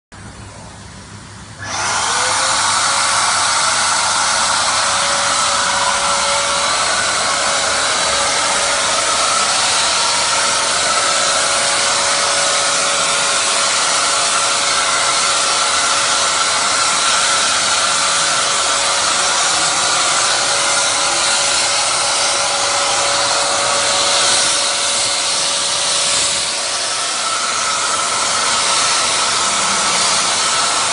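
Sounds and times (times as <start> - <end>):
fogging sprayer blower whine: 1.5 - 30.9
airy hiss of mist: 2.1 - 30.9.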